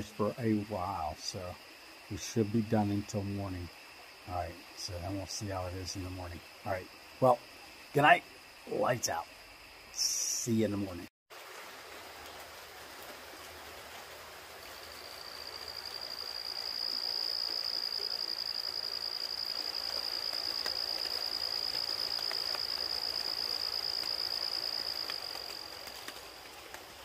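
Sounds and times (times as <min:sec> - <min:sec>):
insect trilling: 0:00.0 - 0:11.0, 0:14.8 - 0:26.4
creek in light rain: 0:00.0 - 0:27.0.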